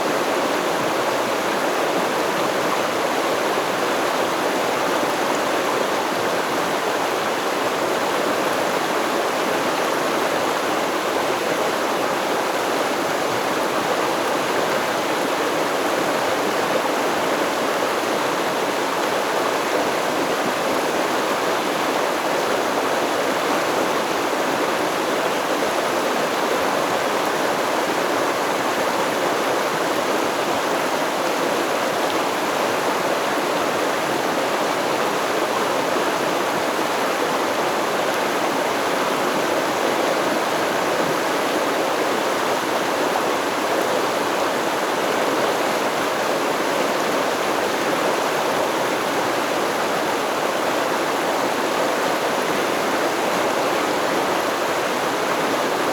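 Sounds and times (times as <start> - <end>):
stream of flowing water: 0.0 - 55.9.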